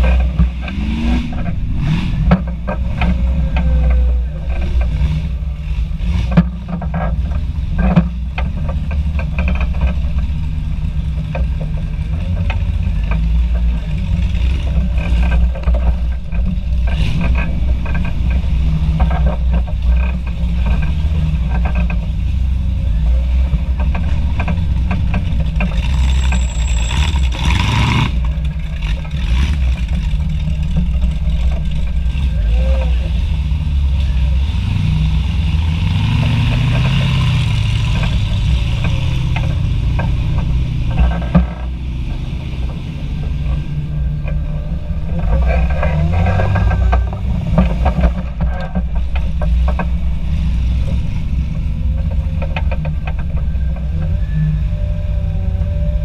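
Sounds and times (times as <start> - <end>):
vehicle clattering and rattling: 0.0 - 56.0
vehicle engine low rumble: 0.0 - 56.0.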